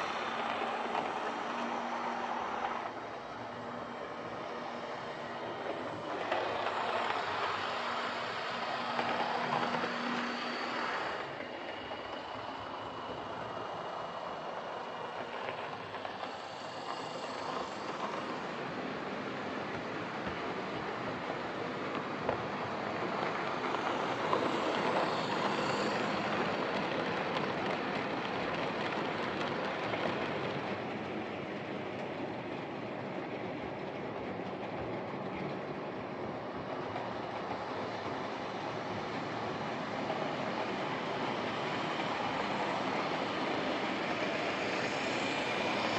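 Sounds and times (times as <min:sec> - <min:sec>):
model train motor whirring: 0:00.0 - 0:30.8, 0:37.4 - 0:45.9
model train wheels on track: 0:00.0 - 0:45.9.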